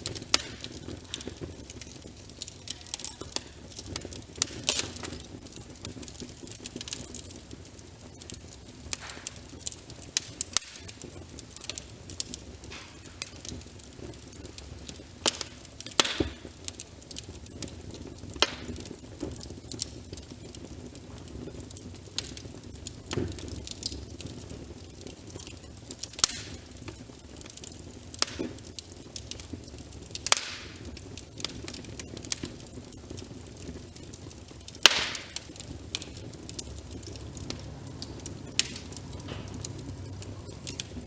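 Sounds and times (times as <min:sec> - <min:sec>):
soft rain hiss: 0:00.0 - 0:41.0
wood fire crackling: 0:00.0 - 0:41.0.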